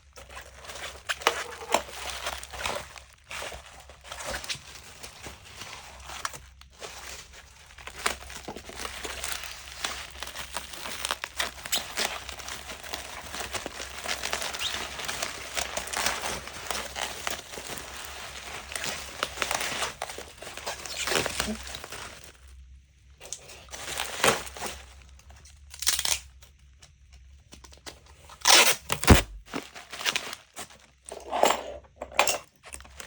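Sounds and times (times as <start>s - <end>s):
crinkling and crackling: 0.0s - 33.0s.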